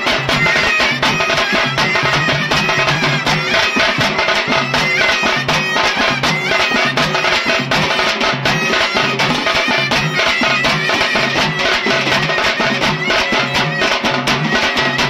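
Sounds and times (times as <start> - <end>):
fast steady drumming: 0.0 - 15.0
reedy wind instrument playing: 0.0 - 15.0.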